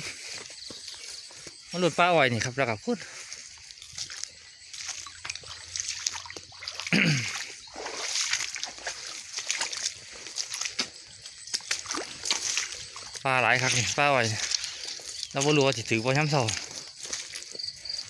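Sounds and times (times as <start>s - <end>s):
footsteps splashing through water: 0.0s - 18.0s.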